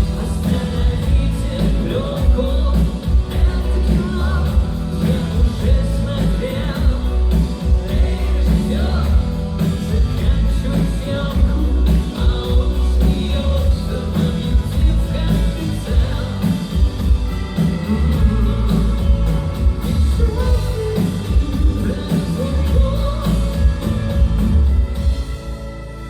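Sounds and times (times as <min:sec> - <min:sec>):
person singing: 0:00.0 - 0:24.4
live rock band playing: 0:00.0 - 0:26.0.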